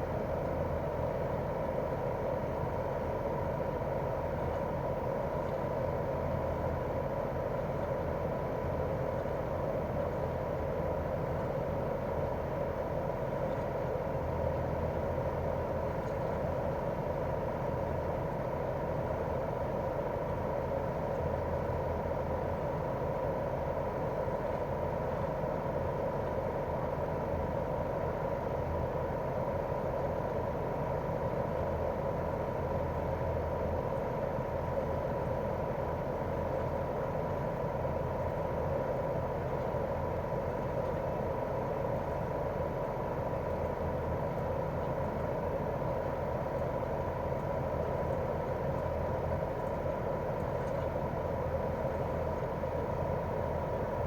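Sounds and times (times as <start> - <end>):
air conditioner unit humming: 0.0 - 54.0
thin steady whine: 0.0 - 54.0.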